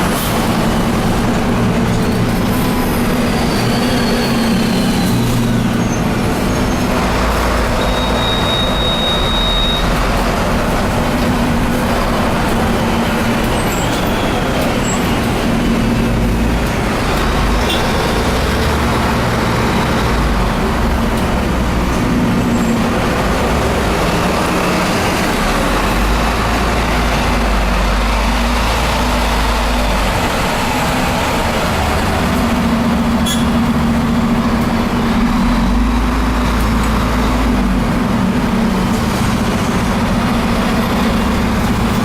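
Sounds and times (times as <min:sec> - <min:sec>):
bus diesel engine rumble: 0:00.0 - 0:42.0
rushing road noise: 0:00.0 - 0:42.0.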